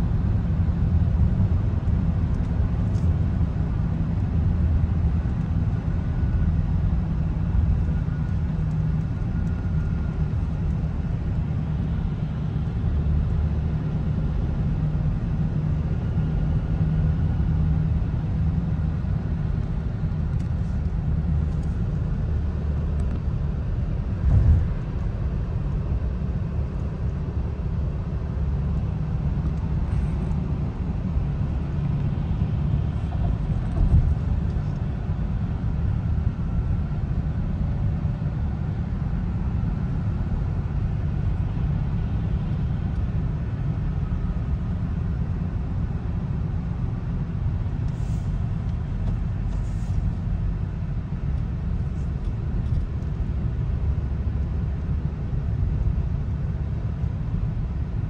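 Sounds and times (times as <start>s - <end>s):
car road noise rumble: 0.0s - 58.0s.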